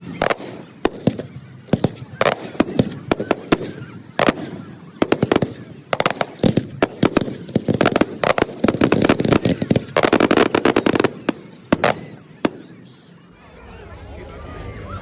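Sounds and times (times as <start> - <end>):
fireworks bangs and cracks: 0.0 - 12.8.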